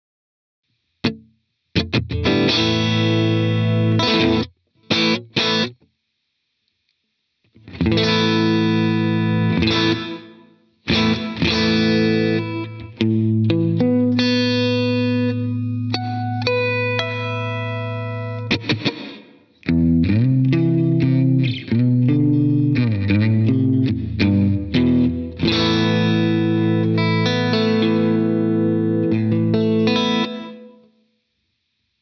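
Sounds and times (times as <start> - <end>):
electric guitar chords with reverb: 1.0 - 5.8, 7.6 - 30.9.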